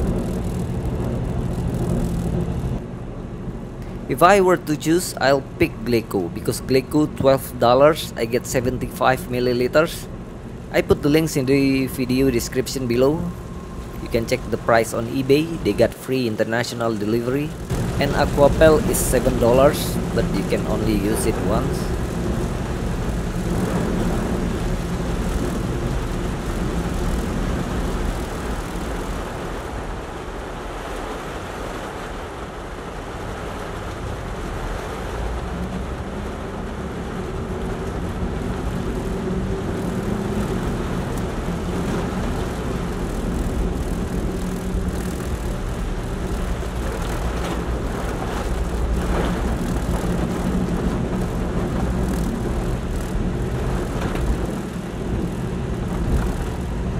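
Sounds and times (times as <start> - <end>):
car engine and tyre hum: 0.0 - 56.9
rain on windshield: 0.0 - 56.9.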